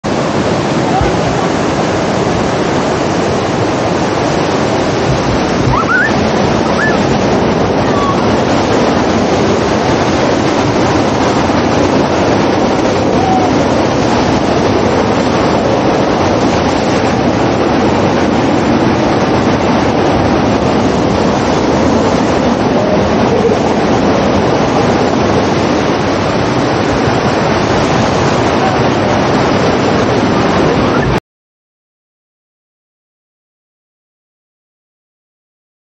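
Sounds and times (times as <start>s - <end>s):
rushing water of wave machine: 0.0s - 31.2s.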